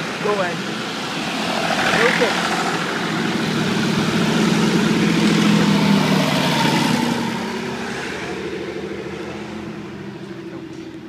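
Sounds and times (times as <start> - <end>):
tractor engine passing by: 0.0 - 11.0.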